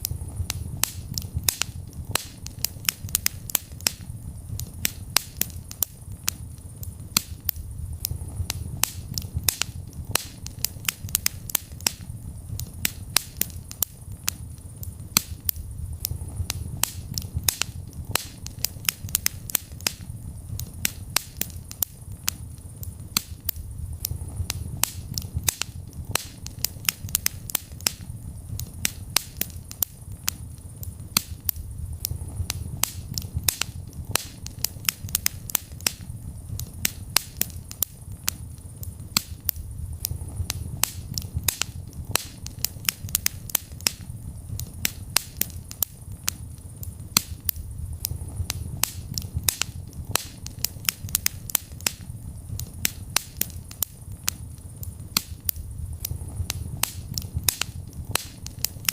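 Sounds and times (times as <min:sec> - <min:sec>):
flames rumbling: 0:00.0 - 0:58.9
wood fire crackling and popping: 0:00.0 - 0:58.9.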